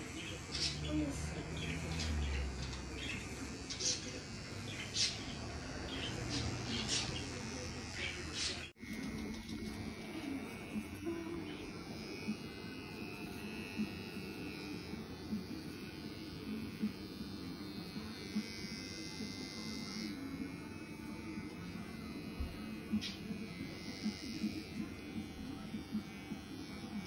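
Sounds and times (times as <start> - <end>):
electric hair clippers buzzing: 0.0 - 27.0.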